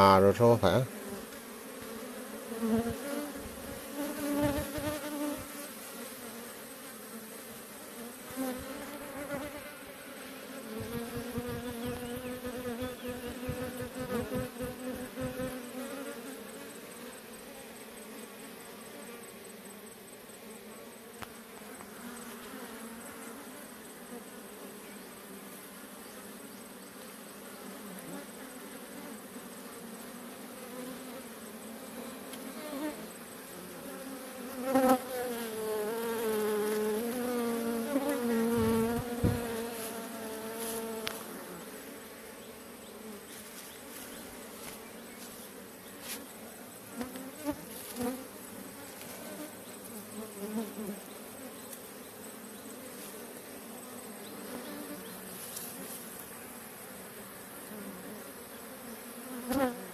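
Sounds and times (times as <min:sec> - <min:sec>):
bee swarm buzzing: 0:00.0 - 0:59.9.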